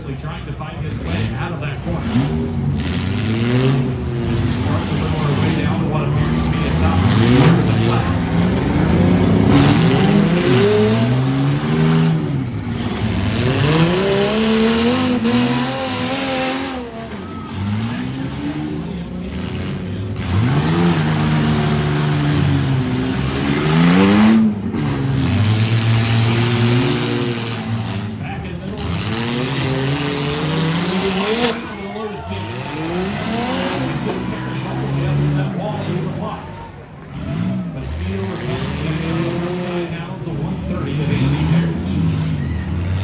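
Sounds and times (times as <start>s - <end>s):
car engines revving: 0.0s - 43.0s.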